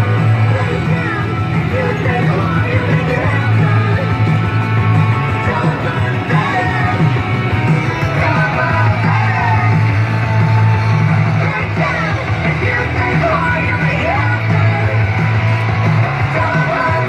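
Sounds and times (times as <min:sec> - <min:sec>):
rock music with singer: 0:00.0 - 0:17.0.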